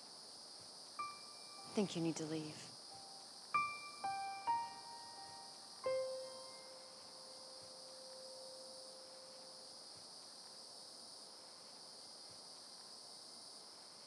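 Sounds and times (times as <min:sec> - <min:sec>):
insect chorus chirring: 0:00.0 - 0:14.0.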